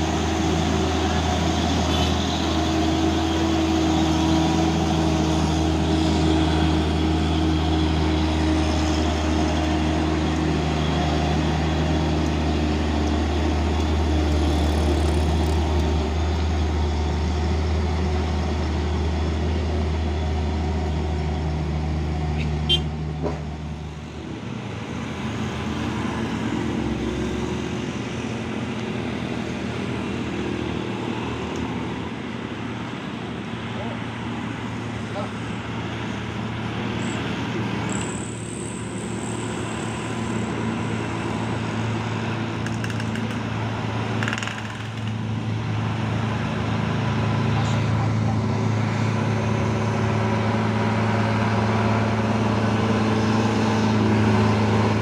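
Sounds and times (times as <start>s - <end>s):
diesel truck engine under load: 0.0s - 55.0s
road traffic: 0.0s - 55.0s.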